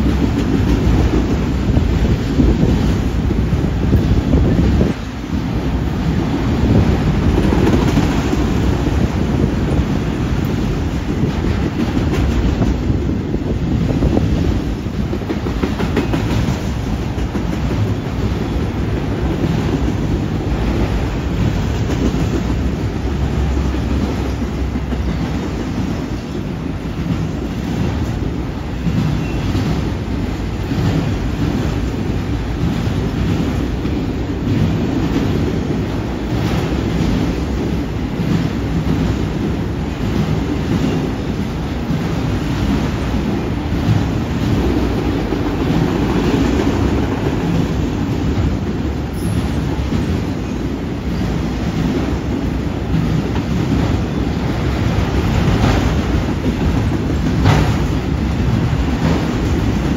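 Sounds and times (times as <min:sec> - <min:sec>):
clickety-clack over rail joints: 0:00.0 - 0:59.9
train wheels rumbling on rails: 0:00.0 - 0:59.9.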